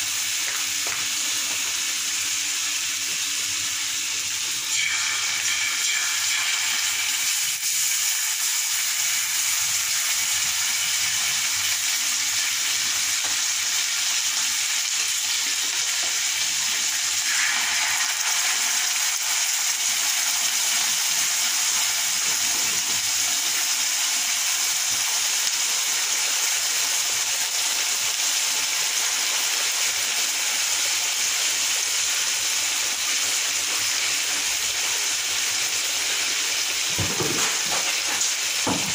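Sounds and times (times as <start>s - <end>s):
sauce sizzling in a pan: 0.0s - 38.9s.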